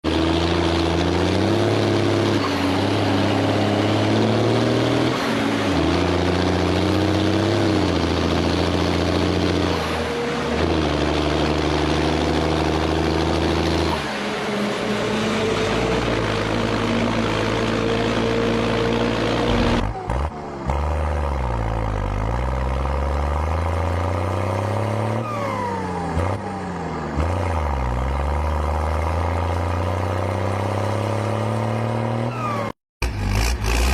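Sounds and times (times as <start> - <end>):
tractor diesel engine labouring: 0.0 - 33.9.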